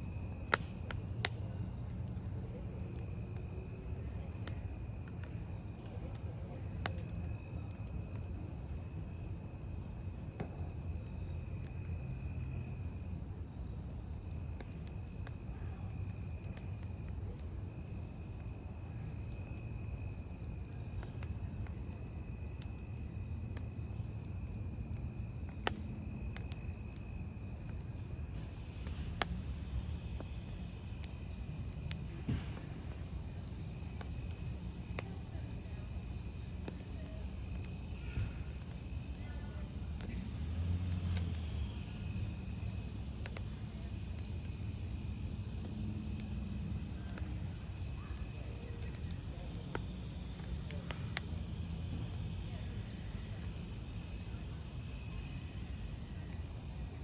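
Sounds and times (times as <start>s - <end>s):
campfire burning: 0.0s - 57.0s
crickets chirping: 0.0s - 57.0s
fire crackles: 0.0s - 57.0s.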